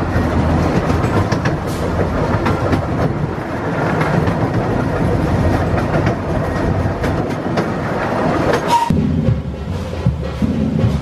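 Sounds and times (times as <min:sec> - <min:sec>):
clickety-clack at rail joints: 0:00.0 - 0:11.0
wheels rumbling on rail: 0:00.0 - 0:11.0.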